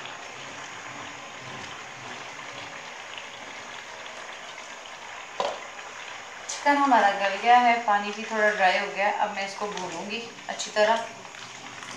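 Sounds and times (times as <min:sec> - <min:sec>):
curry bubbling in a pan: 0:00.0 - 0:11.9.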